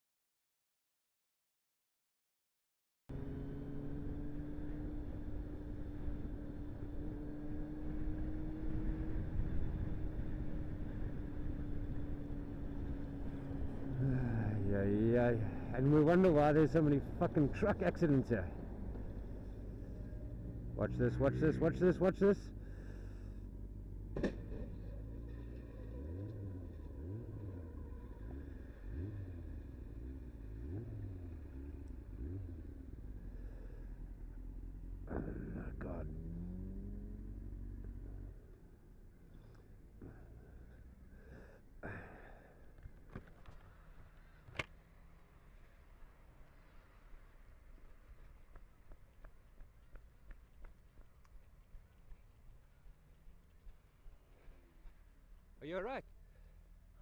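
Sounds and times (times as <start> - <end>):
constant engine hum: 3.1 - 57.0
low road rumble: 3.1 - 57.0.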